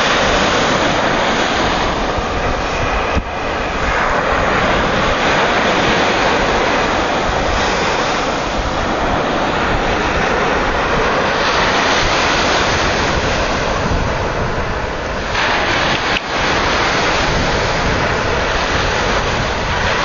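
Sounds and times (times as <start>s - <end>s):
surf: 0.0s - 20.0s
wind buffeting microphone: 0.0s - 20.0s.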